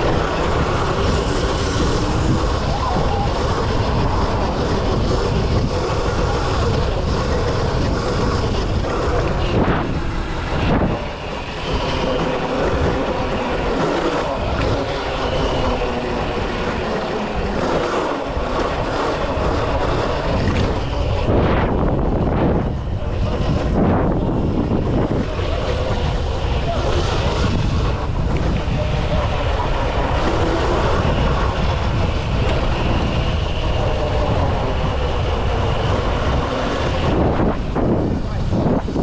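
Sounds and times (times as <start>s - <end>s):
wind buffeting the microphone: 0.0s - 39.0s.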